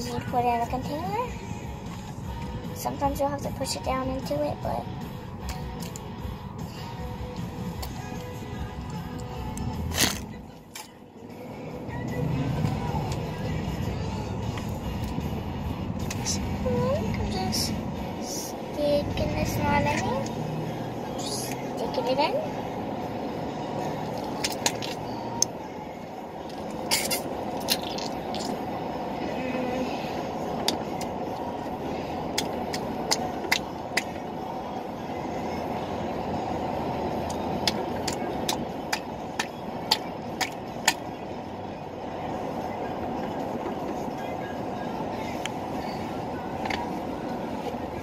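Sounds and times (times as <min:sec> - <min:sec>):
moving vehicle rumble: 0:00.0 - 0:48.0.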